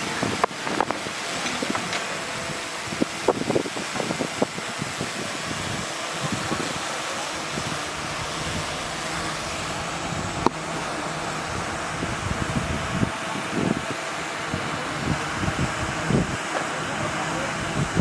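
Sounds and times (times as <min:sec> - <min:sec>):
earth-moving machinery running: 0:00.0 - 0:18.0
wind noise on microphone: 0:00.0 - 0:18.0.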